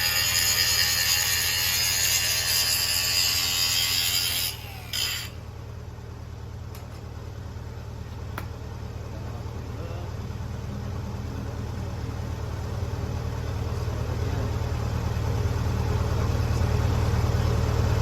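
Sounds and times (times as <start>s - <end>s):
welder engine droning: 0.0s - 18.0s.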